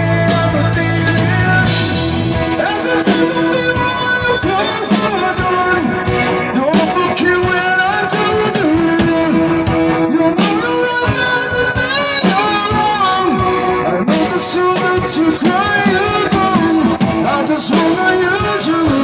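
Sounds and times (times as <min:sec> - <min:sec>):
rock song with bending guitar: 0:00.0 - 0:19.0.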